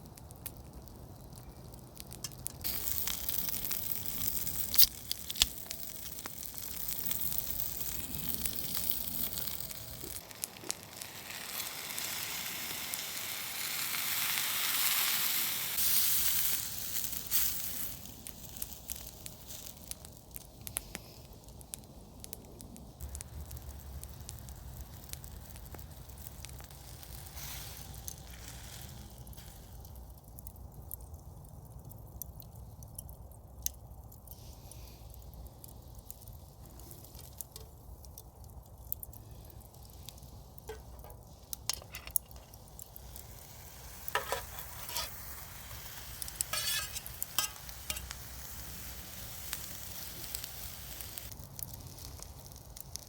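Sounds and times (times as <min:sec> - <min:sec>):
campfire crackling and hissing: 0:00.0 - 0:53.0
fire popping: 0:00.0 - 0:53.0.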